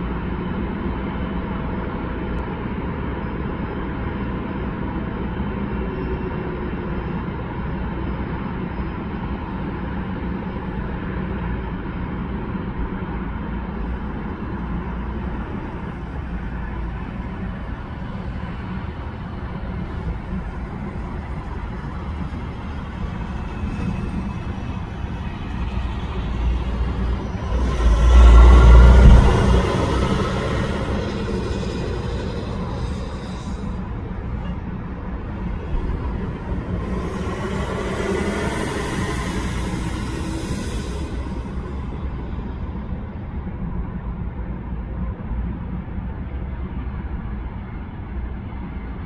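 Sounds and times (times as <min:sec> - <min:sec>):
jet airliner rumble: 0:00.0 - 0:45.9.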